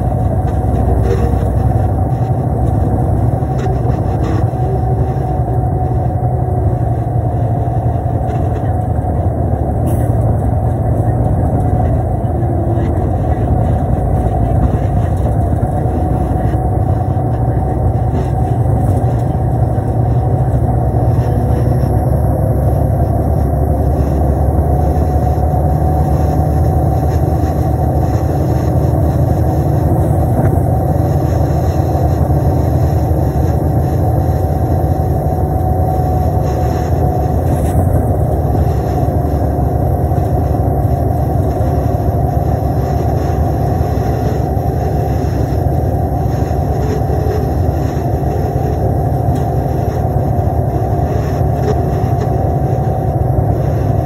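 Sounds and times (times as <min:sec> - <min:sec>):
diesel bus engine drone: 0:00.0 - 0:54.0
road noise: 0:00.0 - 0:54.0.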